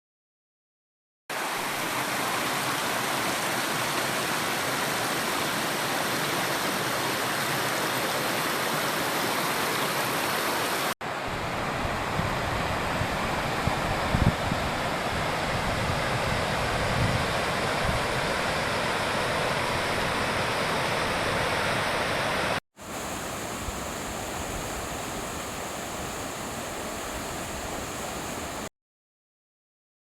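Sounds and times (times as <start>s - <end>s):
rushing water: 1.3s - 28.7s.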